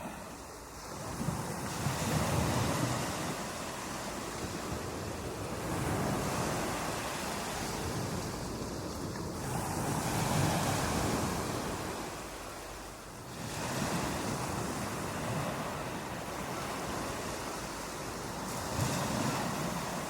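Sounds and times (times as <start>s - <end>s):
ocean waves breaking on beach: 0.0s - 20.0s.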